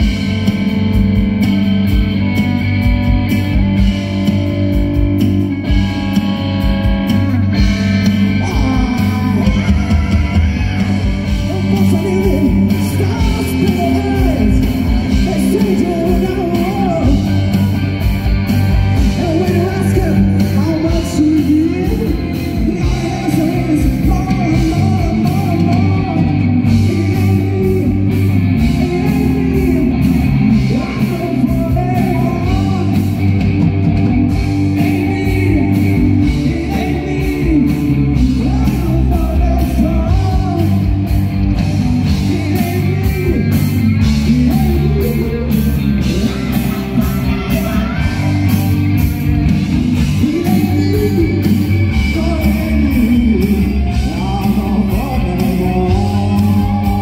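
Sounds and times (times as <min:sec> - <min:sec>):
bass guitar: 0:00.0 - 0:57.0
electric guitars: 0:00.0 - 0:57.0.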